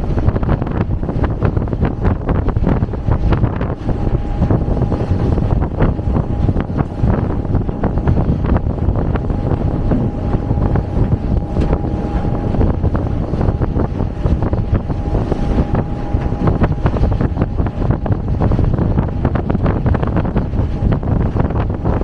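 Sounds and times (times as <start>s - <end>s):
steady low rumble: 0.0s - 22.0s
wind buffeting microphone: 0.0s - 22.0s
faint steady whine: 0.9s - 22.0s.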